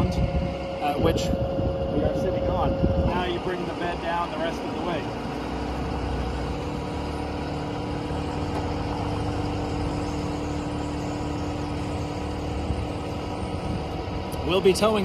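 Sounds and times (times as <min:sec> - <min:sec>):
hydraulic pump hum: 0:00.0 - 0:15.0
truck engine running: 0:00.0 - 0:15.0.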